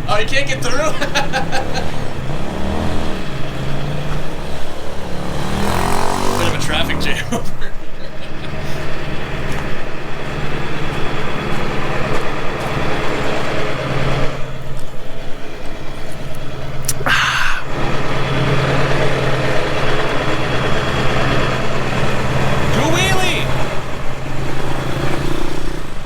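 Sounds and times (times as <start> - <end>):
vehicle engines idling: 0.0 - 26.0.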